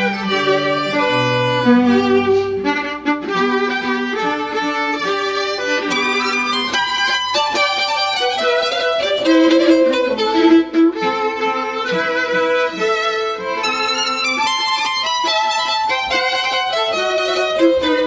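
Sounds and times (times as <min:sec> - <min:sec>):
string trio playing bowed music: 0:00.0 - 0:18.0.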